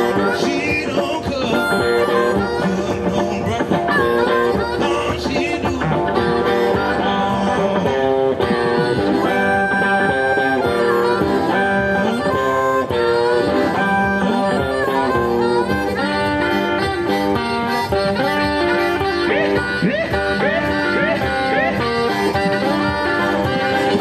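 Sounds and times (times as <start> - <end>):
electric guitar: 0.0 - 24.0
harmonica bending notes: 0.0 - 24.0.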